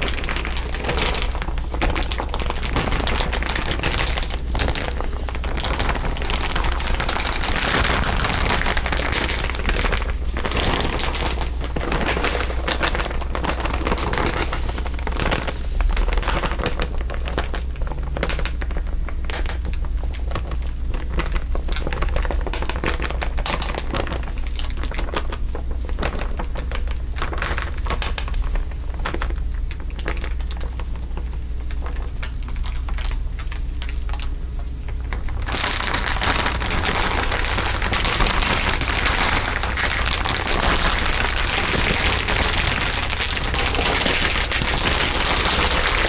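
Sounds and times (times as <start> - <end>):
crinkling crackles and ticks: 0.0 - 46.0.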